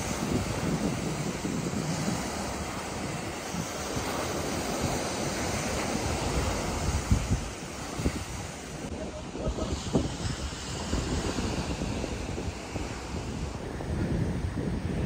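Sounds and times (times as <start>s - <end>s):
waves breaking on rocky shore: 0.0s - 15.0s
wind buffeting microphone: 0.0s - 15.0s.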